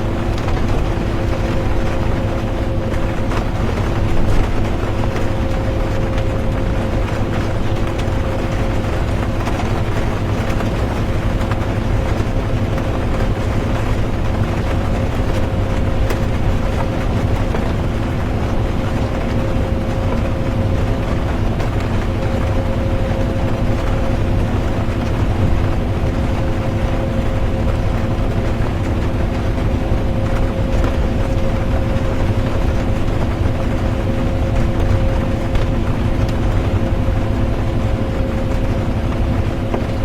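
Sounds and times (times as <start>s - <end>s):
bus engine rumble: 0.0s - 40.0s
drivetrain hum: 0.0s - 40.0s.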